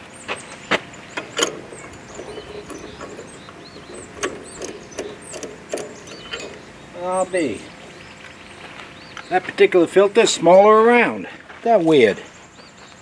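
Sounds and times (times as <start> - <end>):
birds chirping: 0.0 - 11.2, 11.8 - 13.0.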